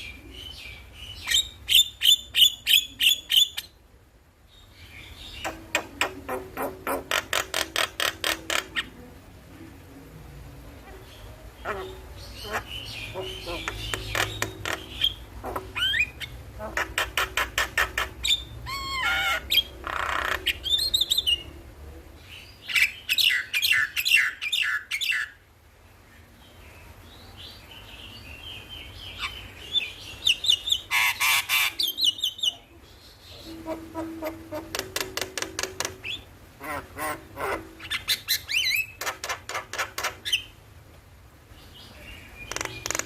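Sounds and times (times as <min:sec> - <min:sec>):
myna bird singing: 0:00.0 - 0:03.8, 0:04.5 - 0:09.1, 0:10.8 - 0:21.6, 0:22.2 - 0:25.4, 0:26.1 - 0:40.6, 0:41.5 - 0:43.0.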